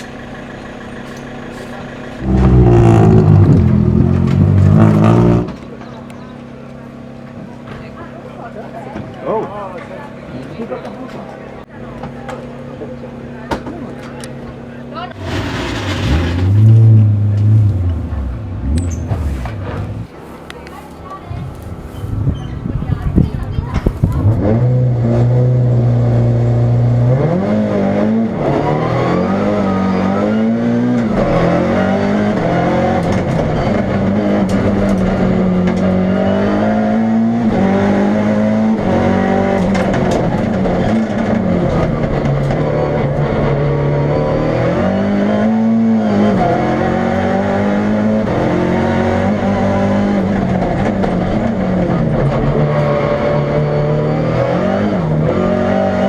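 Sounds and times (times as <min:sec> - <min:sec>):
race car engine revving: 0:00.0 - 0:08.0, 0:11.8 - 0:20.4, 0:23.8 - 0:56.0.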